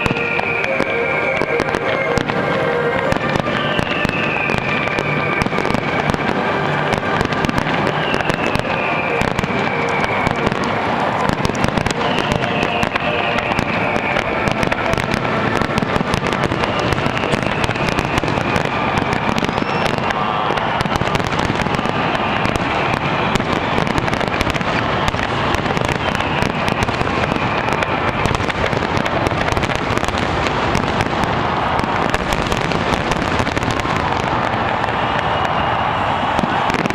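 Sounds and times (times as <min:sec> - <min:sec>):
fireworks bangs and crackling: 0:00.0 - 0:36.9.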